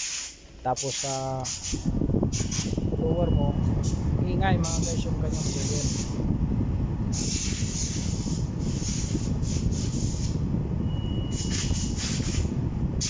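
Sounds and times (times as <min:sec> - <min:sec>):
blower fan rasping: 0:00.0 - 0:13.0
steady low rumble: 0:00.3 - 0:13.0.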